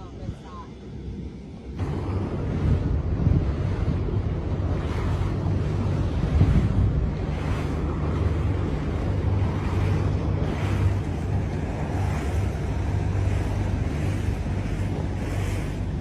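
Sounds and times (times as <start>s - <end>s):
boat motor humming: 0.0s - 16.0s
water noise: 0.0s - 16.0s.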